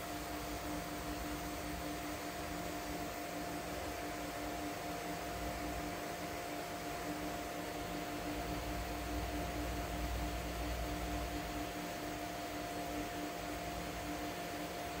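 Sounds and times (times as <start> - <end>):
aquarium pump hissing and humming: 0.0 - 15.0.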